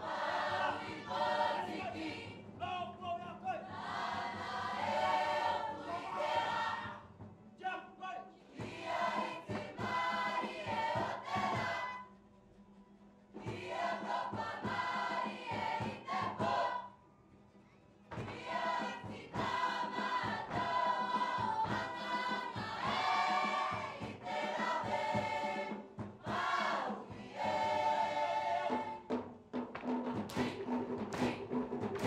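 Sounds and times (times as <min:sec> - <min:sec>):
group singing in chorus: 0:00.0 - 0:02.6, 0:03.6 - 0:07.2, 0:08.4 - 0:12.1, 0:13.4 - 0:17.0, 0:18.2 - 0:29.3, 0:30.2 - 0:32.0.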